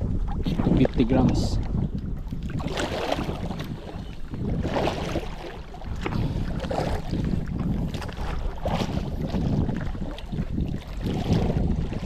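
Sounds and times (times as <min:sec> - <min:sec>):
water slapping boat hull: 0:00.0 - 0:12.0
wind buffeting microphone: 0:00.0 - 0:12.0.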